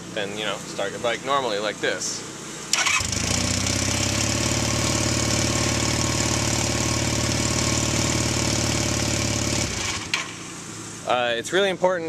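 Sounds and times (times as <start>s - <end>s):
motorcycle engine idling: 2.2s - 11.8s.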